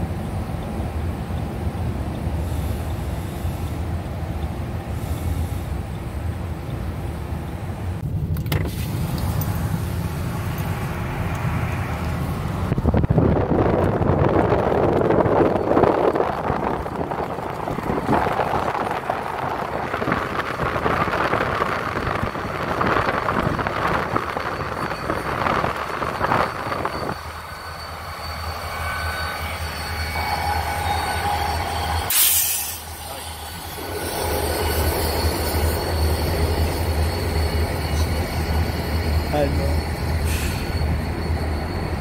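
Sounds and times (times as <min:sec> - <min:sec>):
train wheels squealing on rails: 0:00.0 - 0:07.6, 0:13.4 - 0:42.0
locomotive low rumble: 0:00.0 - 0:42.0.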